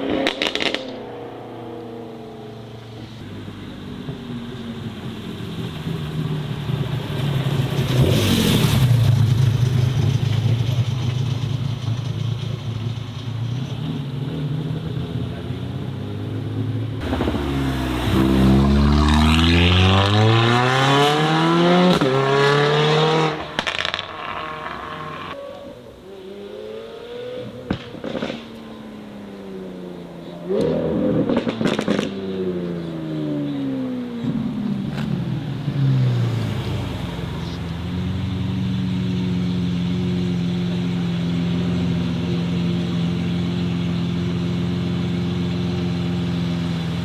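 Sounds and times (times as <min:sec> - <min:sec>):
car accelerating hard: 0:00.0 - 0:11.6, 0:13.6 - 0:47.0
car engine revving: 0:00.0 - 0:47.0.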